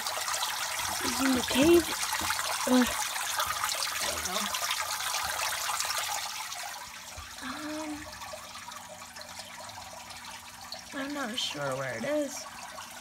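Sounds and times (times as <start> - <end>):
water splashing into tank: 0.0 - 13.0.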